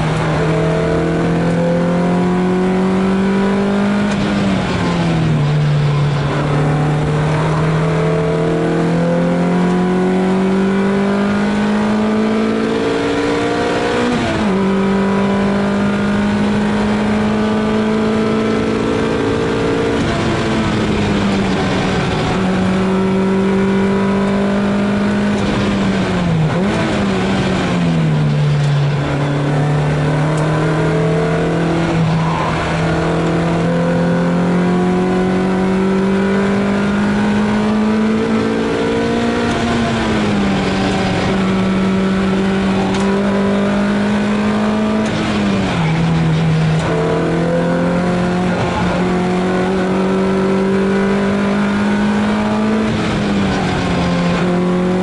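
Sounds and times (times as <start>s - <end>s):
car engine at high revs: 0.0s - 55.0s.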